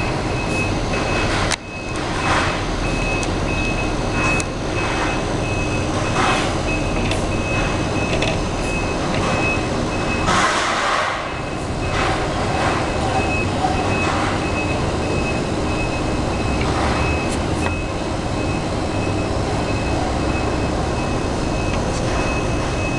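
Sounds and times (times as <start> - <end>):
reversing alarm beeping: 0.0 - 10.4, 11.2 - 22.9
truck engine running: 0.0 - 22.9.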